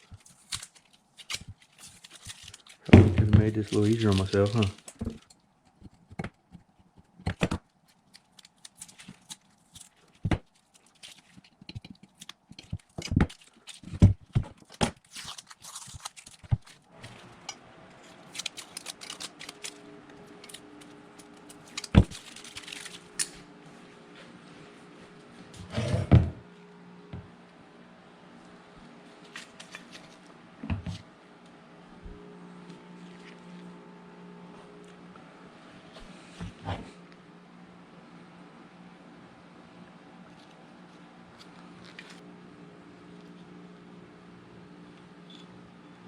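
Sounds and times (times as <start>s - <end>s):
steady multi-tone hum: 0.0s - 46.0s.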